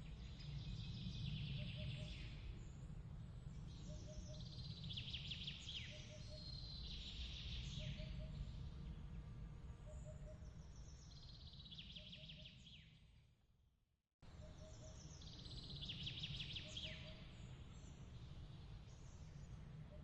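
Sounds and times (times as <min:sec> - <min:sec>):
faint bird chirps and trills: 0:00.0 - 0:13.3, 0:14.2 - 0:20.0.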